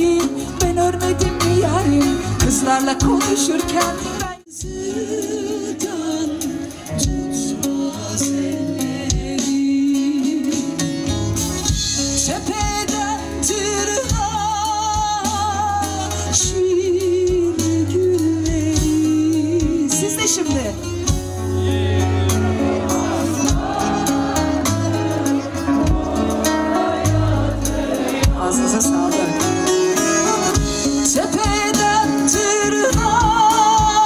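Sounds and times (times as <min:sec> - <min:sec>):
woman singing into microphone: 0:00.0 - 0:11.0, 0:12.2 - 0:20.9, 0:23.0 - 0:34.0
amplified backing music: 0:00.0 - 0:34.0.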